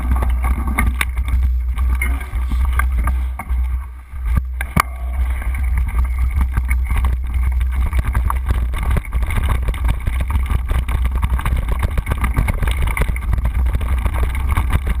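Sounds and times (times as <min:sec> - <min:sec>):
bike rattling over rough trail: 0:00.0 - 0:15.0.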